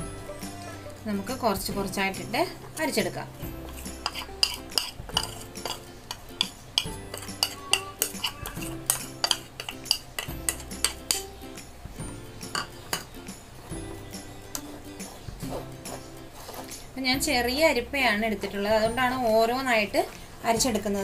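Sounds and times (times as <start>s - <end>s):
soft music: 0.0s - 21.0s.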